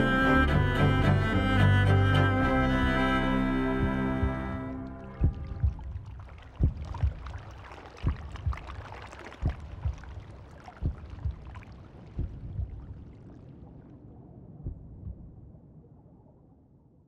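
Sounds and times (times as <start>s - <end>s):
heartbeat thumps: 0.0s - 13.2s, 14.6s - 15.4s
muffled watery wash: 0.0s - 17.0s.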